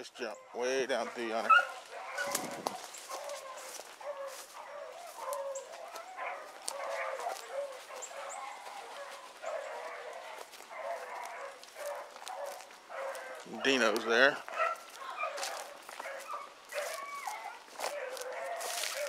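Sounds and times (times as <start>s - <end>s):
dogs baying: 0.3s - 19.0s.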